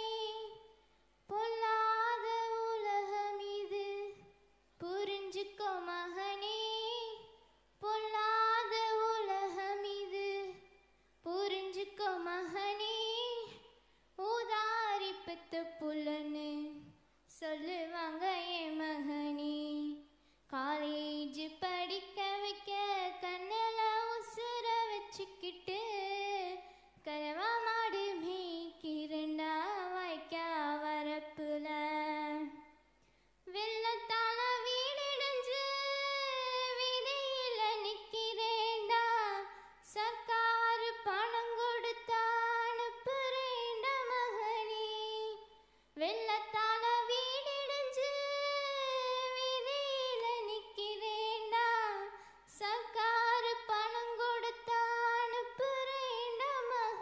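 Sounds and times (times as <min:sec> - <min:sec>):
girl singing unaccompanied: 0:00.0 - 0:32.8, 0:33.4 - 0:57.0.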